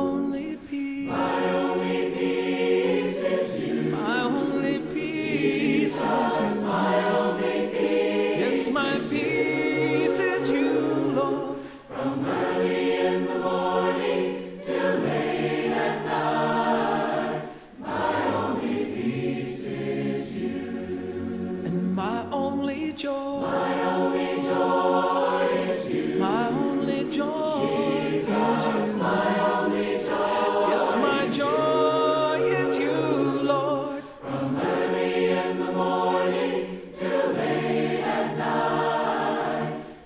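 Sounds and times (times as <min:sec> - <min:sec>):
group singing a hymn a cappella: 0:00.0 - 0:40.0.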